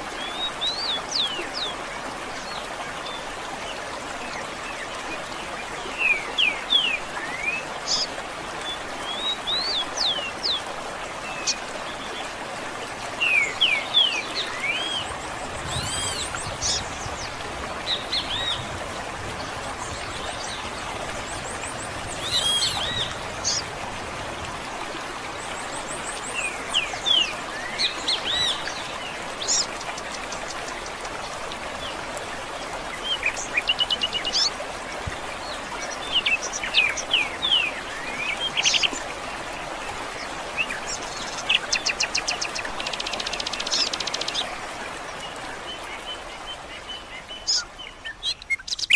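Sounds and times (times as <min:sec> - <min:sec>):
running water: 0:00.0 - 0:48.9
songbirds chirping: 0:00.1 - 0:48.9.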